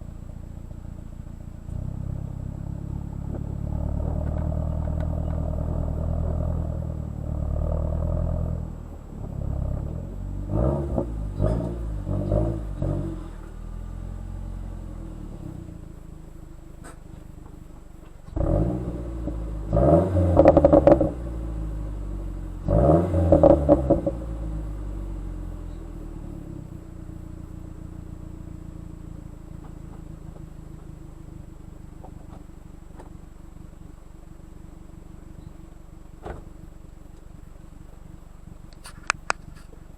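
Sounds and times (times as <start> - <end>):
car engine idling and revving: 0.0 - 39.9
exhaust popping and crackling: 0.0 - 39.9.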